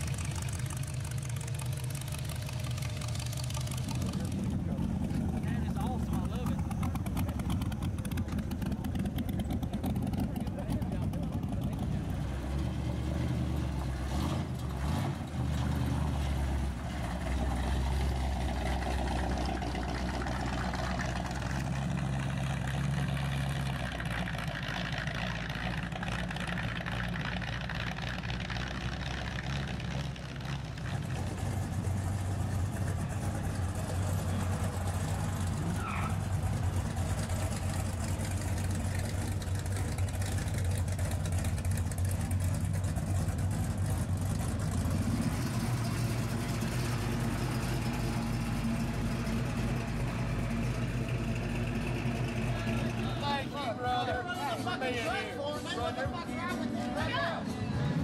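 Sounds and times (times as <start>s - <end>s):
old vehicle engines rolling past: 0.0s - 58.0s.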